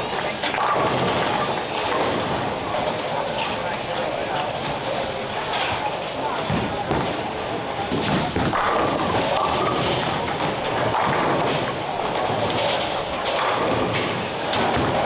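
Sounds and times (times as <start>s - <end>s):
background chatter: 0.0s - 15.0s
bowling balls thudding on lanes: 0.0s - 15.0s.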